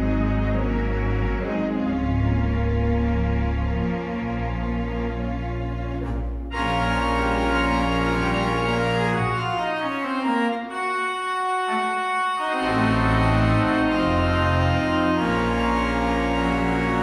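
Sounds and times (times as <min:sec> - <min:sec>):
deep organ pedal bass: 0:00.0 - 0:17.0
theatre organ chords: 0:00.0 - 0:17.0.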